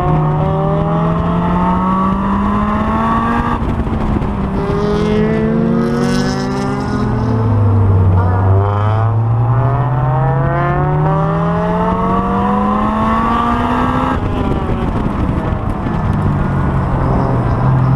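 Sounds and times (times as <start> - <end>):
car engine revving hard: 0.0 - 16.0.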